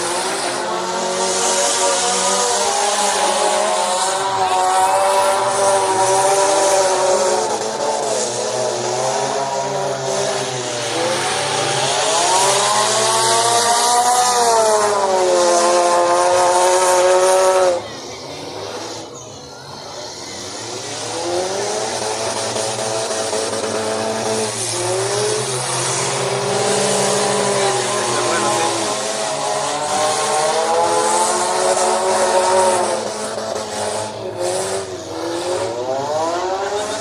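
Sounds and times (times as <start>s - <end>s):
car engines revving hard: 0.0s - 37.0s.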